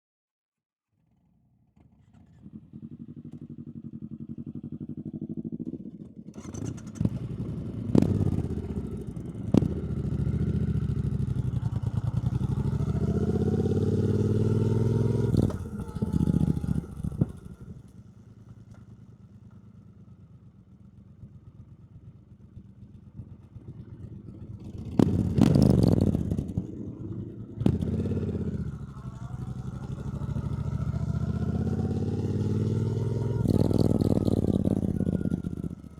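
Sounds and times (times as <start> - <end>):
motorcycle engine running: 2.2 - 35.9.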